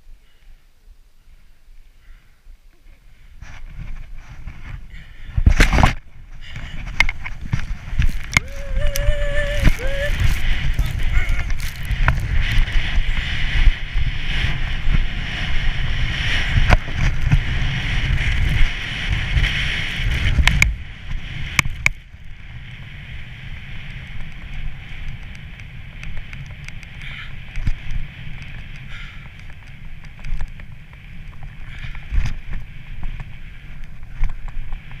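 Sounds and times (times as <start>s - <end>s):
snowboard scraping over snow: 3.0s - 35.0s
wind buffeting microphone: 3.2s - 35.0s.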